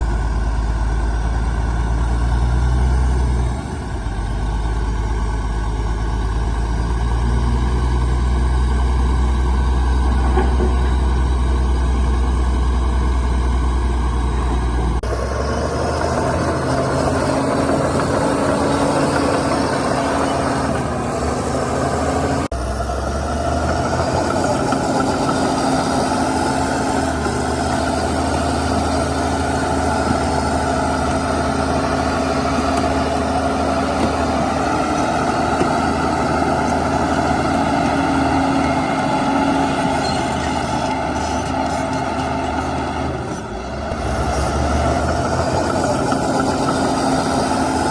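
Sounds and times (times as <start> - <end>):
heavy diesel engines rumbling: 0.0 - 47.9.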